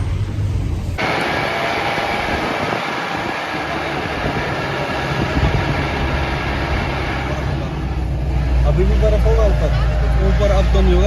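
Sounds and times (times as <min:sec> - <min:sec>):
road noise inside car: 0:00.0 - 0:11.0
vehicle engine running: 0:00.0 - 0:11.0.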